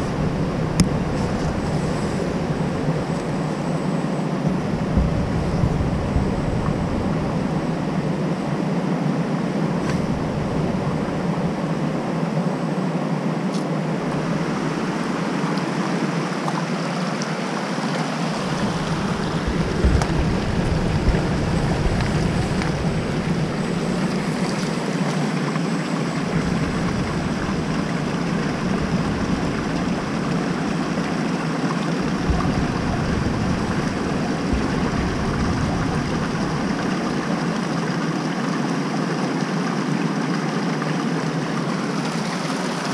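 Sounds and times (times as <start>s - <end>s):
low rumble: 0.0s - 12.7s, 13.9s - 16.1s, 18.2s - 38.4s
creek water over rocks: 0.0s - 42.9s.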